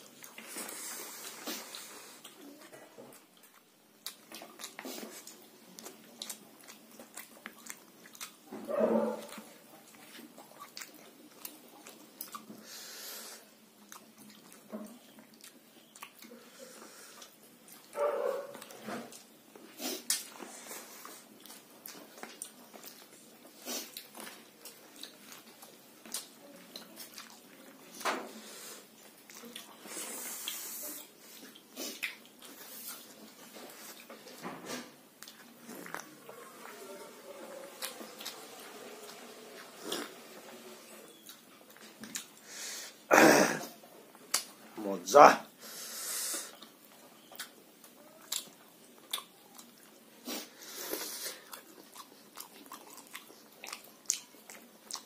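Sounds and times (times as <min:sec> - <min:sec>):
man chewing and lip smacking: 0:00.0 - 0:08.6, 0:09.2 - 0:12.6, 0:13.7 - 0:34.4, 0:35.2 - 0:36.7, 0:41.1 - 0:42.5, 0:44.1 - 0:44.7, 0:46.3 - 0:55.0.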